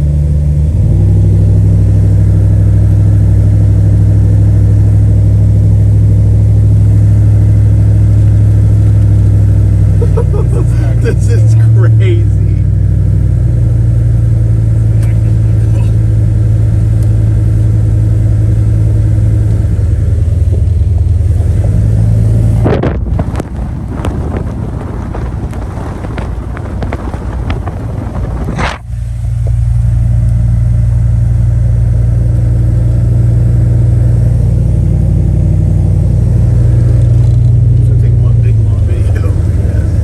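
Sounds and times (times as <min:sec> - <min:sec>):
pickup engine and road hum: 0:00.0 - 0:40.0
rough crackling noise: 0:00.0 - 0:40.0.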